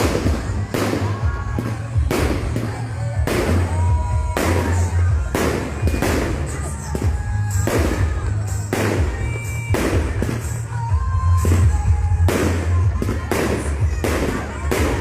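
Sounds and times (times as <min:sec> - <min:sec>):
firework bangs with crackle: 0:00.0 - 0:15.0
music with heavy bass: 0:00.0 - 0:15.0.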